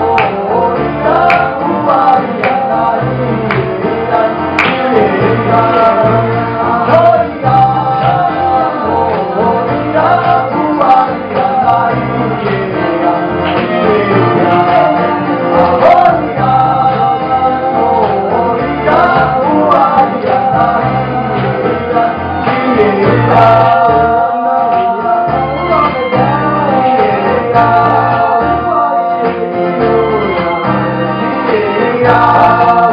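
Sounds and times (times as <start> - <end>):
men singing together: 0.0 - 32.9
strummed acoustic guitar: 0.0 - 32.9.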